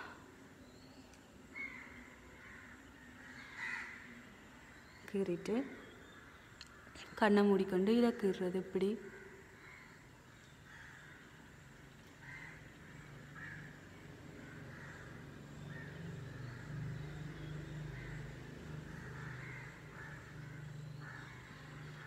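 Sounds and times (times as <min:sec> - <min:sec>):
faint bird calls: 0:00.0 - 0:07.2, 0:09.0 - 0:22.0.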